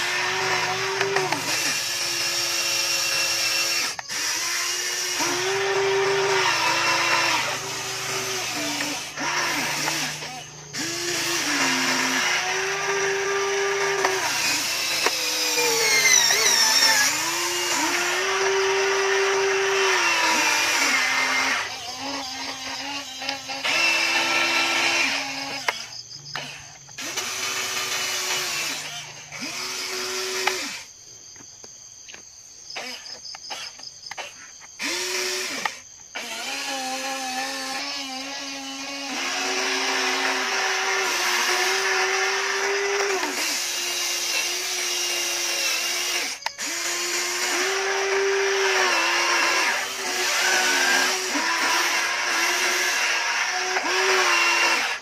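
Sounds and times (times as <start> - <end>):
toy excavator motors whining: 0.0 - 55.0.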